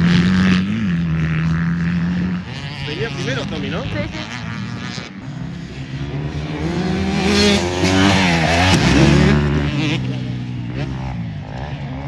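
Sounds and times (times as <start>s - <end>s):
motocross engines revving: 0.0s - 12.0s.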